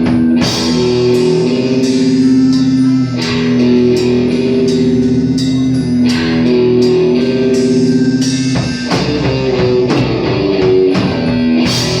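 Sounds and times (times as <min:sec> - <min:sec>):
drum kit beat: 0:00.0 - 0:12.0
guitar: 0:00.0 - 0:12.0.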